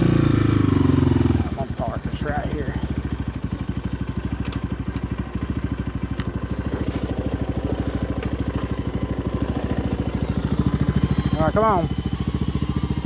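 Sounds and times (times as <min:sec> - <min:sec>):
small four-wheeler engine idling: 0:00.0 - 0:13.0.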